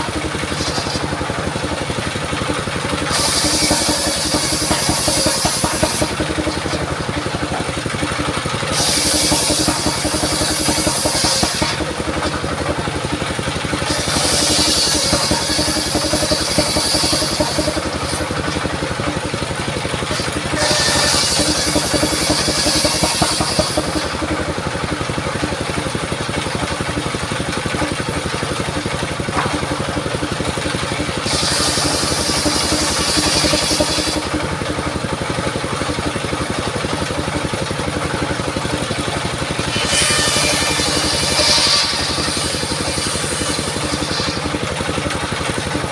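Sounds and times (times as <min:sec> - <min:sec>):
saw blade rasping through wood: 0:00.0 - 0:45.8
circular saw running: 0:00.0 - 0:45.9.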